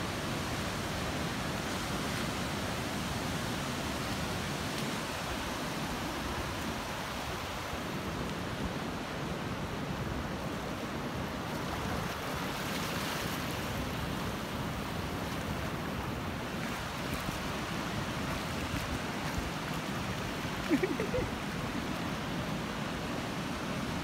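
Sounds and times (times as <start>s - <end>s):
water washing across sand: 0.0s - 24.0s
waves breaking: 0.0s - 24.0s.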